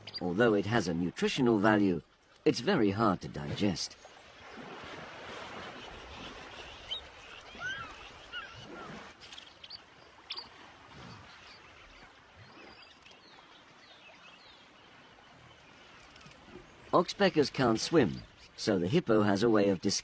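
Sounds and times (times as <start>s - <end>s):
birds chirping: 0.0s - 20.0s
faint outdoor background: 0.0s - 20.0s.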